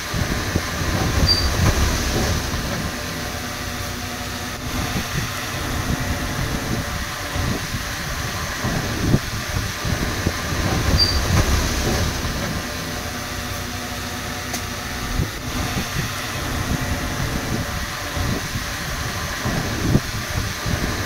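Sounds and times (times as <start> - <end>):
bulldozer diesel engine: 0.0 - 21.0
steel tracks clattering: 0.0 - 21.0.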